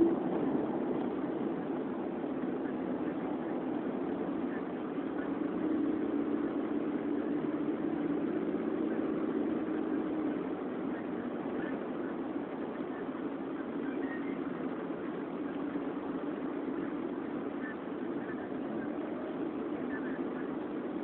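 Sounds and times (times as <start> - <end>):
car engine hum: 0.0 - 21.0
road noise: 0.0 - 21.0.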